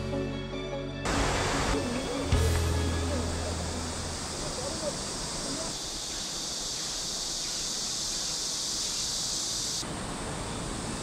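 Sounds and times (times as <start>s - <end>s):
steady high hiss: 1.0s - 11.0s.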